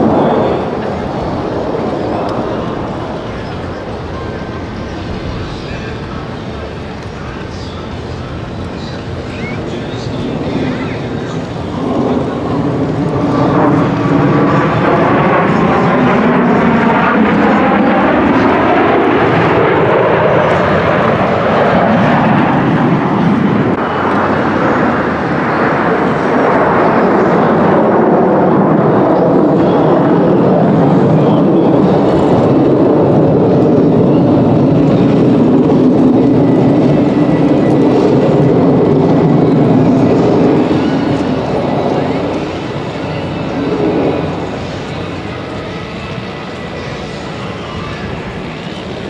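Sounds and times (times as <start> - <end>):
aircraft engine flying past: 0.0 - 49.0.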